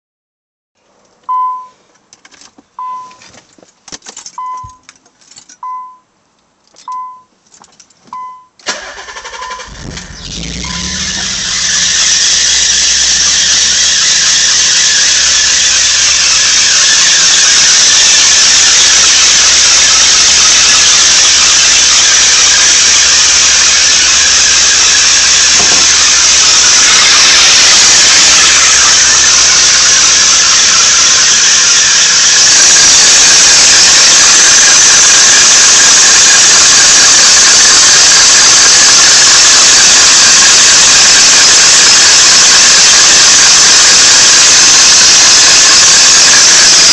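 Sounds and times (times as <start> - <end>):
high-pitched squeal from car: 8.7 - 46.9.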